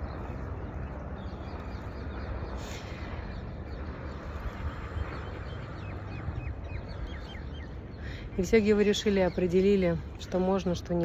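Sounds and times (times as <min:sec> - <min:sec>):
wind rumble and hiss: 0:00.0 - 0:11.0.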